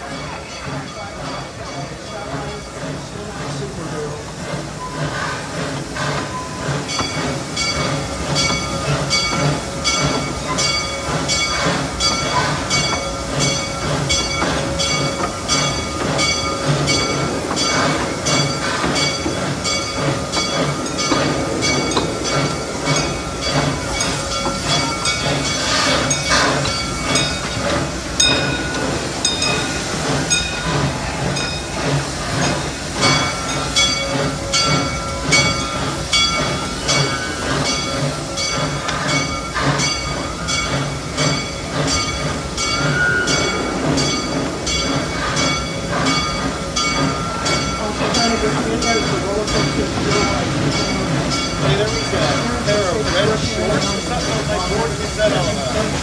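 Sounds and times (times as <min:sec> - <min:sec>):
steam hiss: 0:00.0 - 0:56.0
steam locomotive exhaust chuffing: 0:00.0 - 0:56.0.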